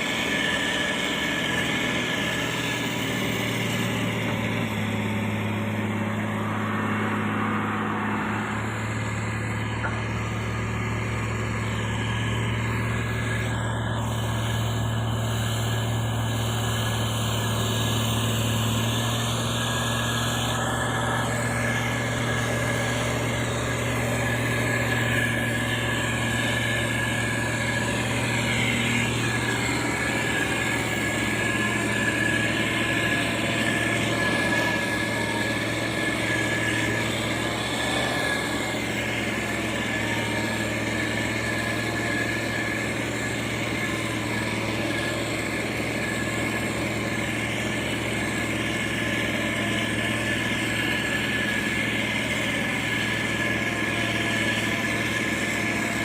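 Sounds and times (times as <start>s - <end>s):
diesel machinery engine drone: 0.0s - 56.0s
high whine: 0.0s - 56.0s.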